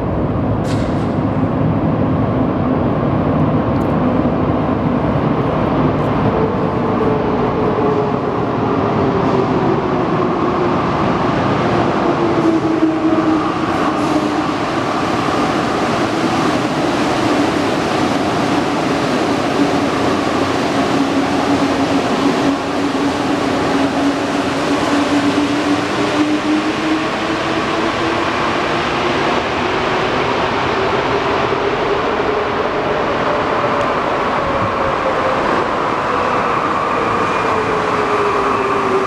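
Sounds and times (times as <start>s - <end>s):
metro train rumble: 0.0s - 39.0s.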